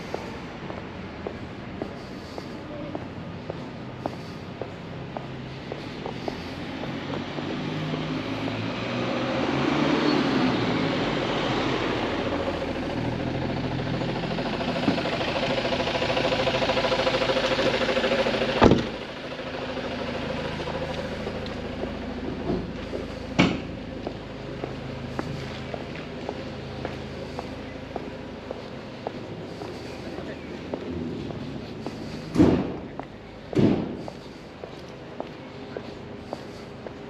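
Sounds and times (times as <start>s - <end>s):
van engine driving past: 0.0s - 37.0s.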